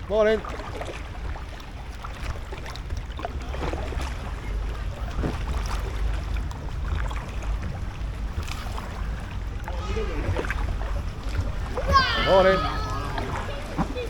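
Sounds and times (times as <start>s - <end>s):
paddle splashing in water: 0.0s - 14.0s.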